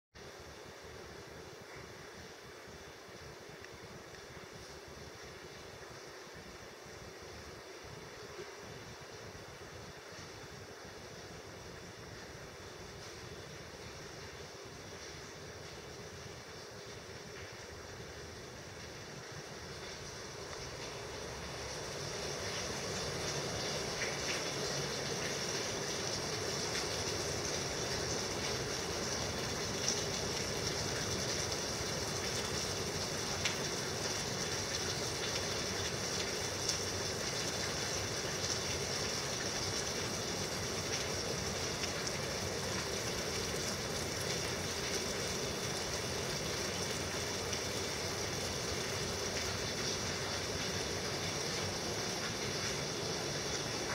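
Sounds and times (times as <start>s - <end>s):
heavy rain downpour: 0.2s - 53.9s.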